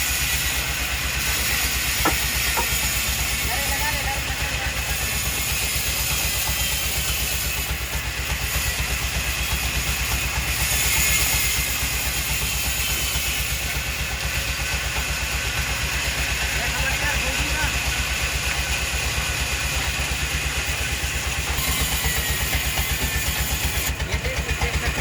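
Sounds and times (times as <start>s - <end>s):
engine running with low pulsing: 0.0s - 25.0s.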